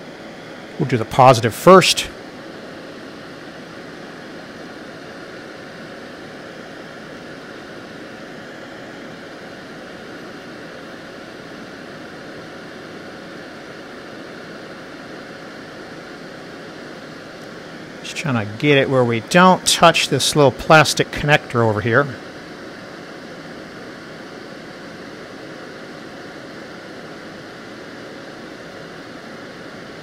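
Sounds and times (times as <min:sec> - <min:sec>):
exhaust fan rushing: 0:00.0 - 0:30.0.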